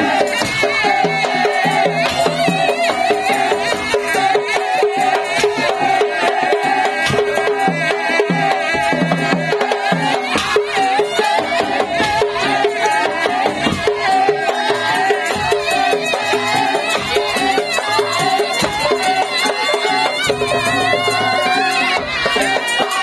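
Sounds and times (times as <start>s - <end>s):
struck percussion ensemble: 0.0s - 23.0s.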